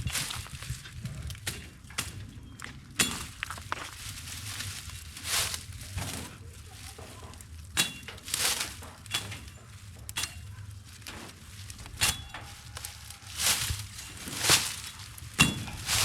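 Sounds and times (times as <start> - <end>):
dry plants snapping: 0.0 - 16.0
dry vegetation rustling: 0.0 - 16.0.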